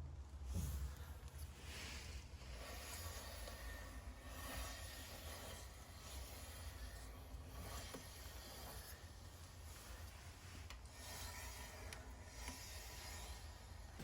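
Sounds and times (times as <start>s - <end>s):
brake pads scraping disc: 0.6s - 14.0s.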